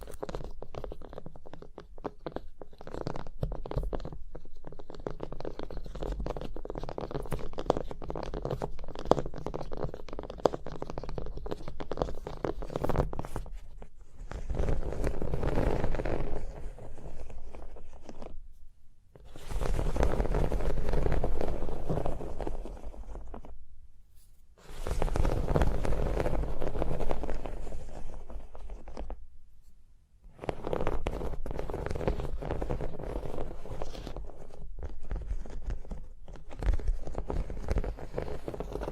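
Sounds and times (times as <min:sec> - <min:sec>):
scratching on objects: 0:00.0 - 0:38.9.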